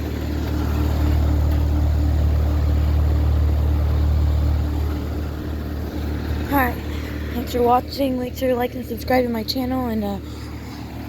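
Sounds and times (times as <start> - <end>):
compressor hum: 0.0 - 11.0.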